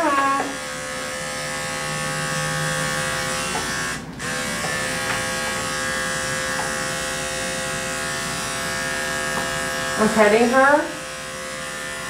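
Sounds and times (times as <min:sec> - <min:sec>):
electric clipper humming: 0:00.0 - 0:12.0.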